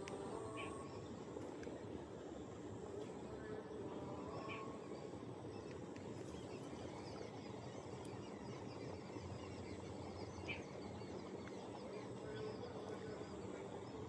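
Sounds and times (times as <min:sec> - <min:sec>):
small birds chirping faintly: 0:00.0 - 0:14.0
steady background hiss: 0:00.0 - 0:14.0.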